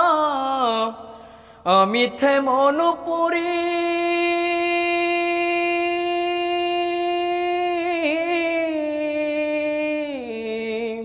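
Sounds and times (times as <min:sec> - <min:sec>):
man singing unaccompanied: 0:00.0 - 0:01.0, 0:01.6 - 0:11.0.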